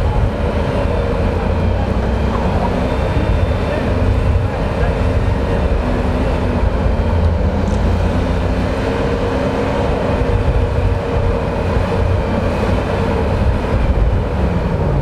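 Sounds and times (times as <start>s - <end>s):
engine rumbling at low revs: 0.0s - 15.0s.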